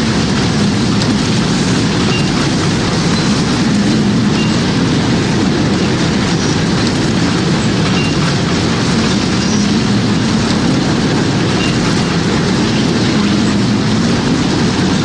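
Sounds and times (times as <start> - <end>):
roaring tornado wind: 0.0 - 15.0.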